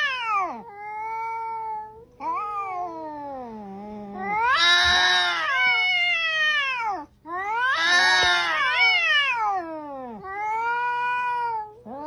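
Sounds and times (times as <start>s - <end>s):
cat yowling: 0.0s - 3.1s, 4.2s - 12.0s.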